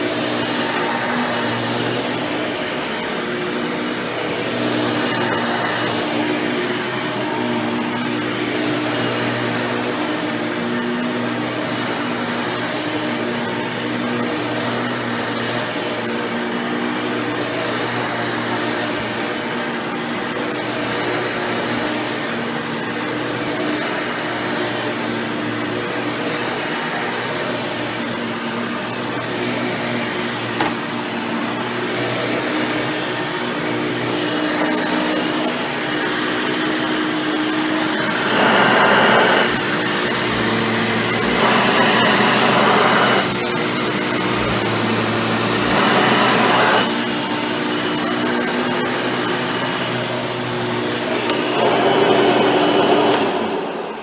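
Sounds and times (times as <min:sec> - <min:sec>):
upright vacuum running: 0:00.0 - 0:54.0.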